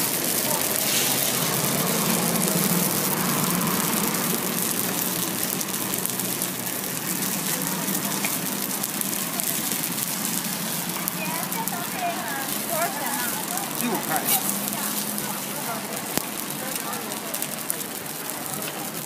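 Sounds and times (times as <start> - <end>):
dough sizzling on griddle: 0.0 - 19.0.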